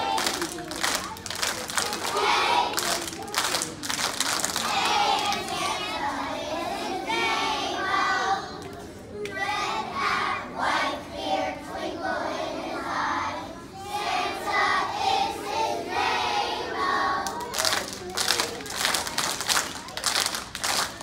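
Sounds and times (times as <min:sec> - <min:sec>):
children's choir singing: 0:00.0 - 0:03.8, 0:04.4 - 0:17.6.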